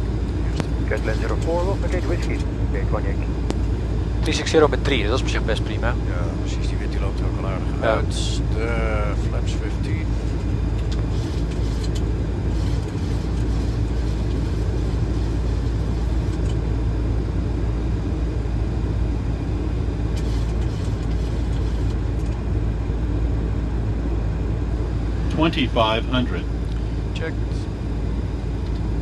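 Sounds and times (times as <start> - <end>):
airflow and jet engines rushing: 0.0 - 29.0.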